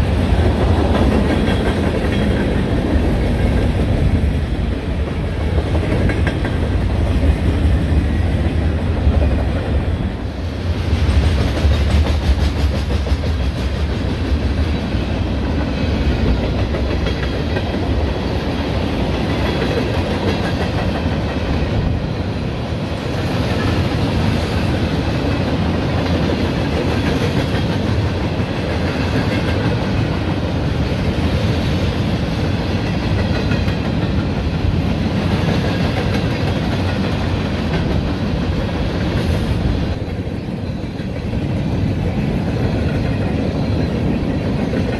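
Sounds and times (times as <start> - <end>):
freight train passing: 0.0 - 44.9.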